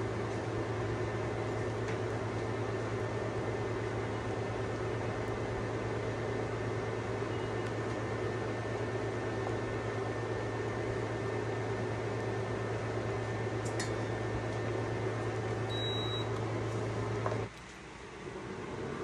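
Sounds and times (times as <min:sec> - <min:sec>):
cooktop electrical hum: 0:00.0 - 0:19.0
cooling fan noise: 0:00.0 - 0:19.0.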